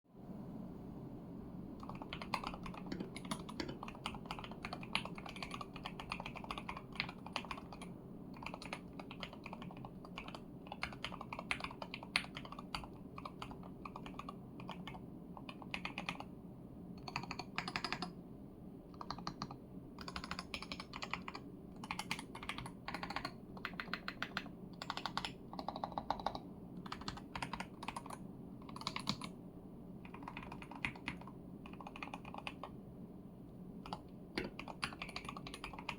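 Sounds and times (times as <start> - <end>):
steady low hum: 0.1 - 35.9
mechanical keyboard typing: 1.8 - 16.3, 17.0 - 18.1, 18.9 - 29.3, 30.0 - 32.8, 33.8 - 35.9.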